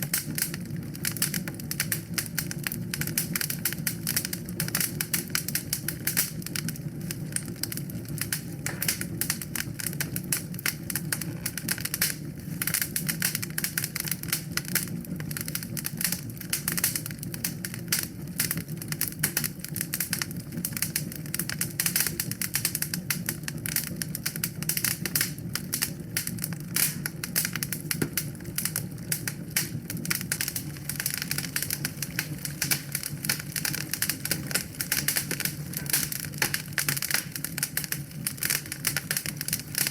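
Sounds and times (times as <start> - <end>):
fire crackling pops and snaps: 0.0 - 39.9
low rumble of flames: 0.0 - 39.9.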